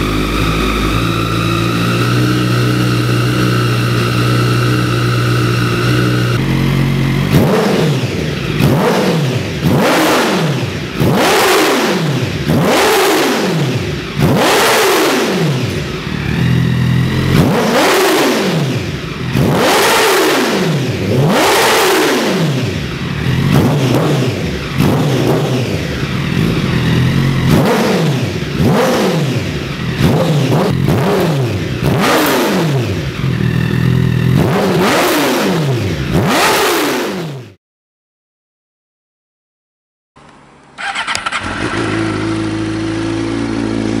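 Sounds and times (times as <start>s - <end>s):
motorcycle engine revving: 0.0s - 37.6s, 40.8s - 44.0s.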